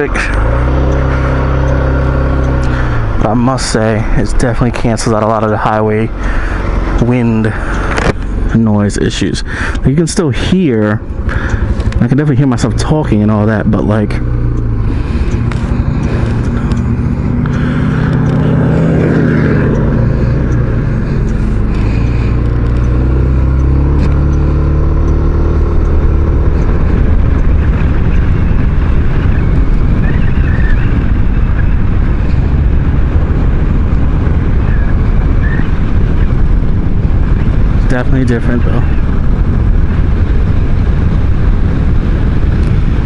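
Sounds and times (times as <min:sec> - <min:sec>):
scooter engine accelerating: 0:00.0 - 0:08.6, 0:11.2 - 0:39.5
wind and road noise: 0:00.0 - 0:43.0.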